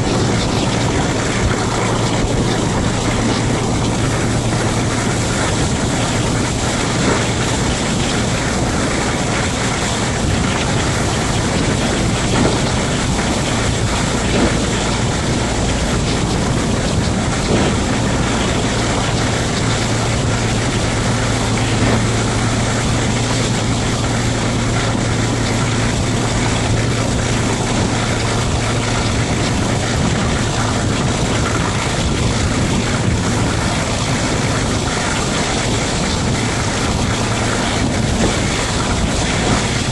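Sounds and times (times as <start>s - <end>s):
locomotive engine humming: 0.0s - 39.9s
train wheel noise: 0.0s - 39.9s.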